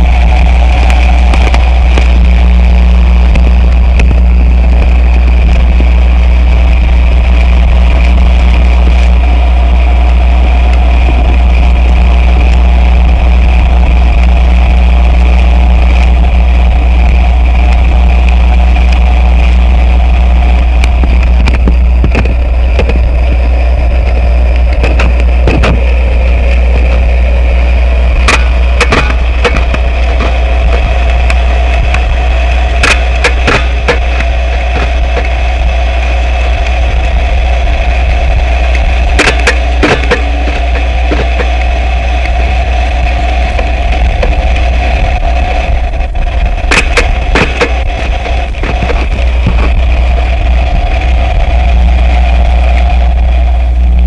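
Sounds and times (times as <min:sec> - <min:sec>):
crackling clicks: 0:00.0 - 0:53.7
noise music drone: 0:00.0 - 0:54.0.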